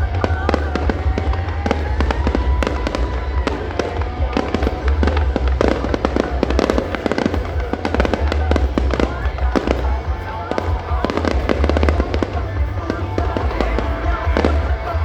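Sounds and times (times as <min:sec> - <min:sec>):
fireworks crackling: 0:00.0 - 0:15.0
low rumble of fireworks booms: 0:00.0 - 0:15.0.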